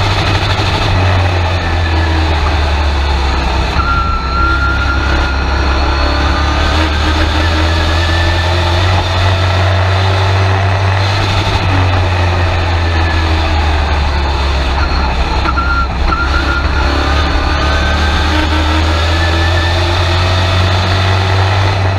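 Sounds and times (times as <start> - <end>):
truck engine running loud: 0.0 - 21.9.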